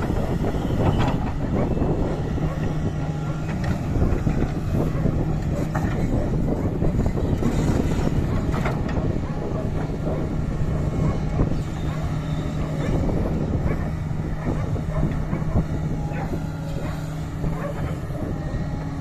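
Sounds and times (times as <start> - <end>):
excavator diesel engine: 0.0 - 19.0.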